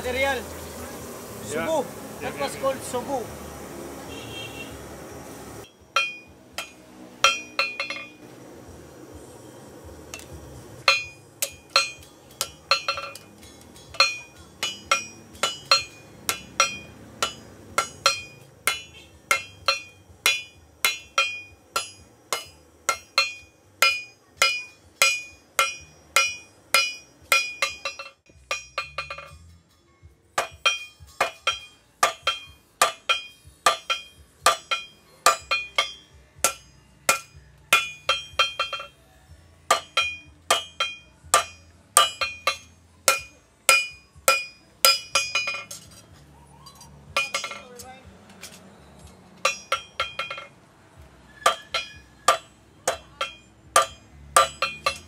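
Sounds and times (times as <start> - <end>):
hammer striking metal on anvil: 5.6 - 8.3, 10.1 - 39.0, 39.7 - 46.1, 47.1 - 48.6, 49.4 - 50.6, 51.4 - 55.0.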